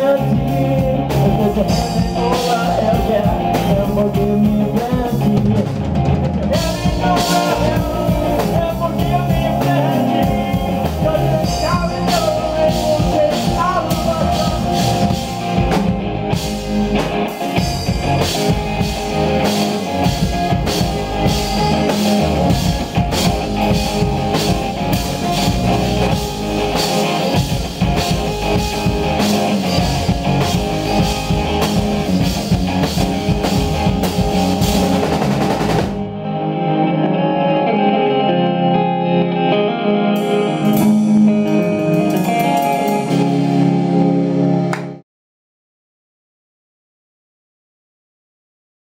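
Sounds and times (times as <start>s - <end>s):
drum kit: 0.0s - 36.2s, 40.2s - 45.0s
electric bass: 0.0s - 45.0s
electric guitar: 0.0s - 45.0s.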